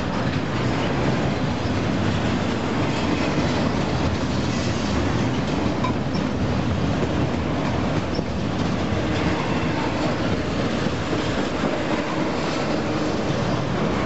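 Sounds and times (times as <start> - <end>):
train wheels rolling on rail: 0.0 - 14.0.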